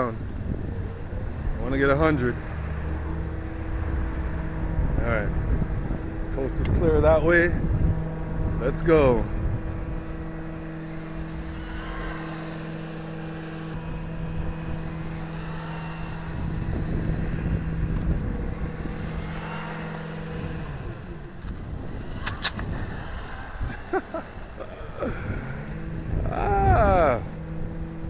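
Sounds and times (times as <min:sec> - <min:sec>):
rc car motor whine: 0:00.0 - 0:28.0
steady low hum: 0:00.0 - 0:28.0
wind rumble on microphone: 0:00.0 - 0:28.0.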